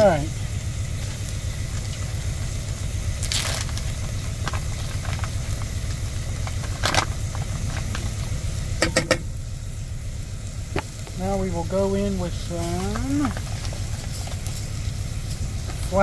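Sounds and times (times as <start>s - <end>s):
food sizzling in a pot: 0.0s - 16.0s
low engine-like rumble: 0.0s - 16.0s.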